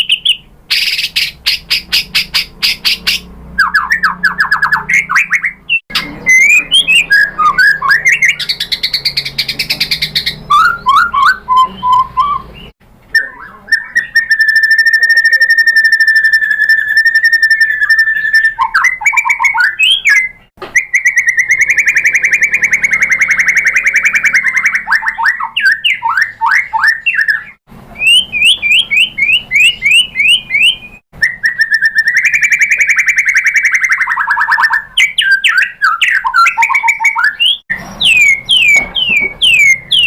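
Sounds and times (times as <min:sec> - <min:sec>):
bird singing trills and whistles: 0:00.0 - 0:40.0.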